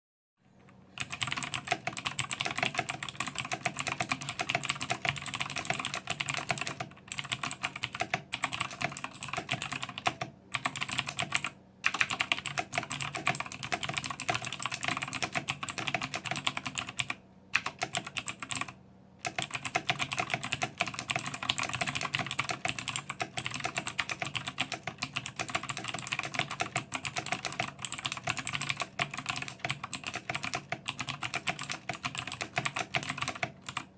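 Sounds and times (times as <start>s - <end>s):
fast typing on mechanical keyboard: 1.0s - 33.9s.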